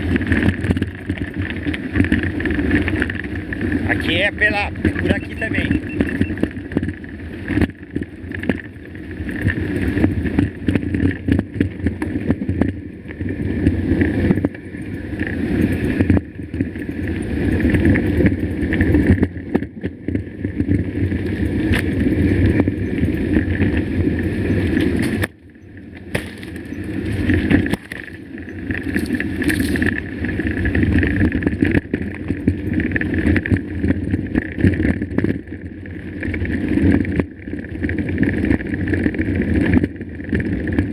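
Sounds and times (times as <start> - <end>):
bike rattling over stones: 0.0 - 40.9
wind noise on microphone: 0.0 - 40.9.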